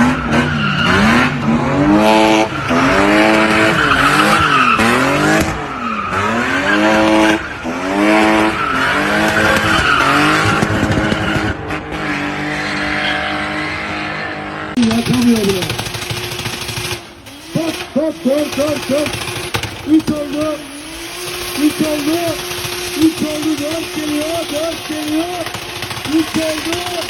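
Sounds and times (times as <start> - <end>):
car engine revving hard: 0.0 - 27.0
tyres skidding and squealing: 0.0 - 27.0.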